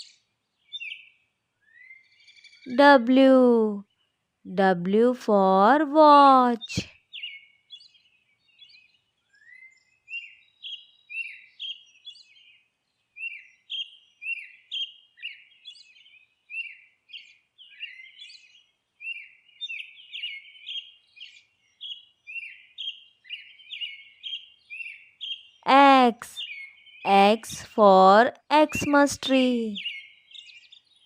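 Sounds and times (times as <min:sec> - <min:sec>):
small birds chirping: 0:00.0 - 0:04.2, 0:04.8 - 0:31.0.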